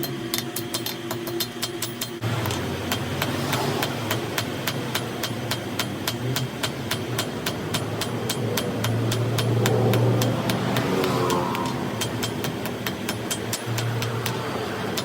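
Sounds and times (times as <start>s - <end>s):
hammer striking metal: 0.0s - 15.0s
low motor hum: 0.0s - 15.0s.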